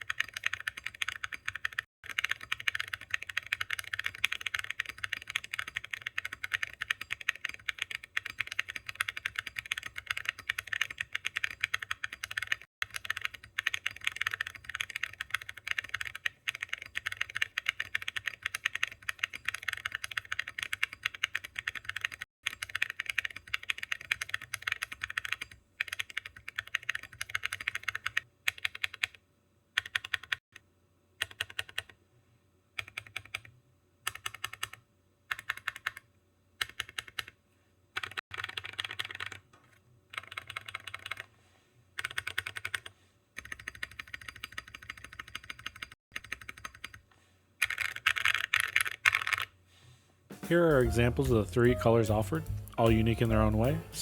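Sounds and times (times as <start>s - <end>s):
typing on mechanical keyboard: 0.0s - 29.2s, 29.8s - 30.4s, 31.2s - 32.0s, 32.8s - 37.4s, 38.0s - 41.3s, 42.0s - 47.0s, 47.6s - 49.6s.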